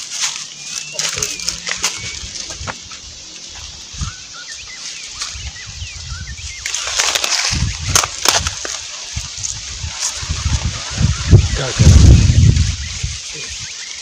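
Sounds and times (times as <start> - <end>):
dry leaves tearing and rustling: 0.0 - 13.9
birds chirping: 0.0 - 14.0.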